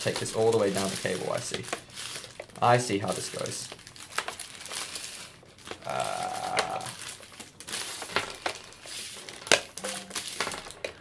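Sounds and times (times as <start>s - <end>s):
plastic wrap rustling: 0.0s - 11.0s.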